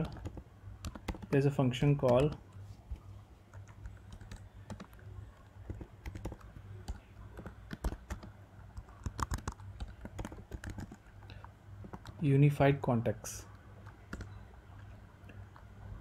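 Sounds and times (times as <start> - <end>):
computer keyboard typing: 0.0 - 2.5, 3.5 - 12.2, 13.8 - 15.7
low steady hum: 0.0 - 16.0.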